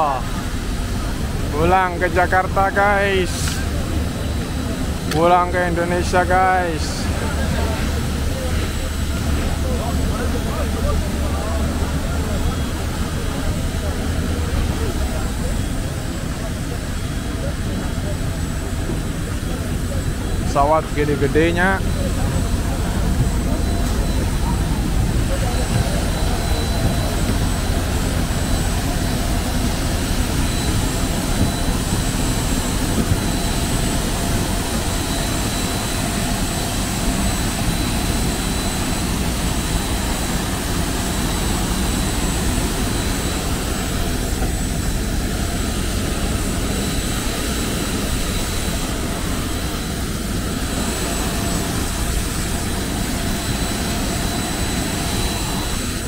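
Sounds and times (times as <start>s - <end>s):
high steady jet whine: 0.0s - 56.0s
jet aircraft rumble: 0.0s - 56.0s.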